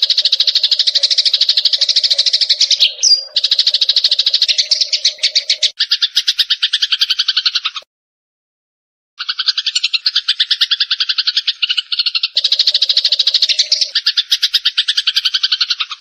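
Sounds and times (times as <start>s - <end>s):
sparrows chirping rapidly: 0.0s - 7.9s, 9.2s - 16.0s.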